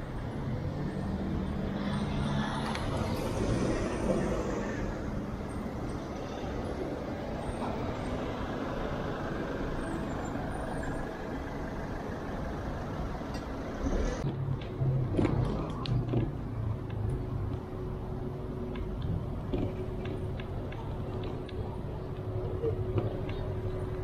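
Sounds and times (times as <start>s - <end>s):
large vehicle engine humming: 0.0s - 24.0s
road traffic noise: 0.0s - 24.0s.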